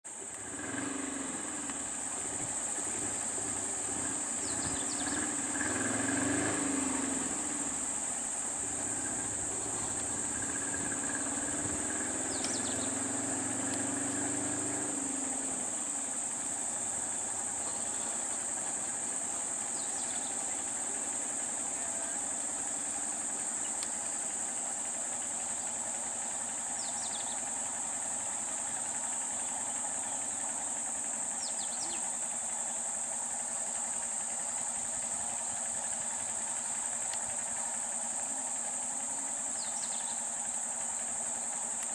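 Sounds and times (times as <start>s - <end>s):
vehicle engines idling: 0.0s - 41.9s
high-pitched insect drone: 0.1s - 41.9s.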